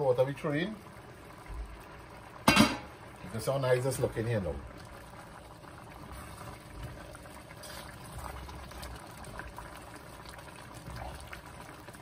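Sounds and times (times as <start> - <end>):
rice bubbling in a pot: 0.0 - 12.0.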